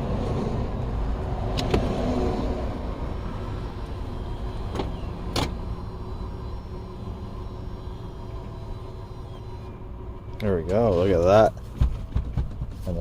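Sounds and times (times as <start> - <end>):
seat motors running: 0.6 - 13.0.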